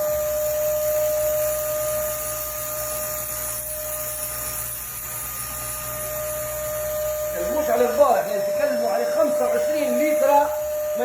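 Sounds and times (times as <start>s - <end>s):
vacuum cleaner sucking up soil: 0.0s - 11.0s.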